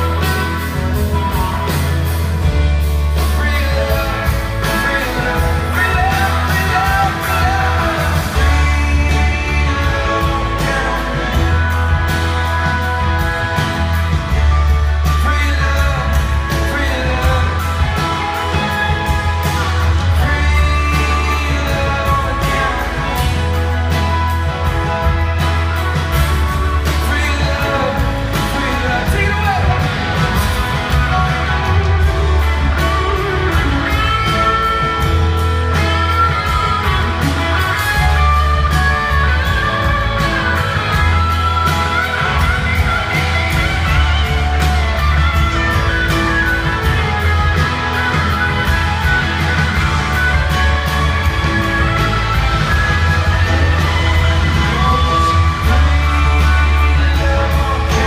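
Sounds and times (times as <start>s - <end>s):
electric guitars: 0.0s - 58.0s
heavy bass: 0.0s - 58.0s
live rock band playing: 0.0s - 58.0s
steady drum beat: 0.0s - 58.0s.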